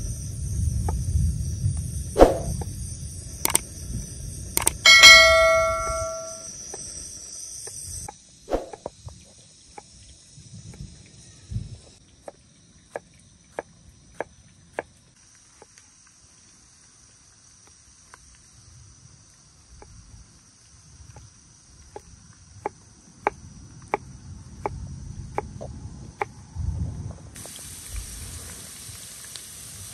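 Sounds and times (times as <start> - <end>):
faint high insect chirr: 0.0 - 29.9.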